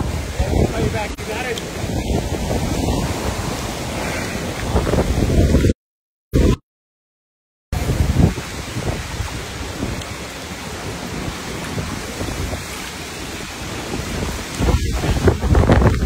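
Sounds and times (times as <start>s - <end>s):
churning floodwater: 0.0s - 5.7s, 7.8s - 16.0s
heavy rain: 0.0s - 5.7s, 7.8s - 16.0s
wind buffeting microphone: 0.0s - 5.7s, 7.8s - 16.0s.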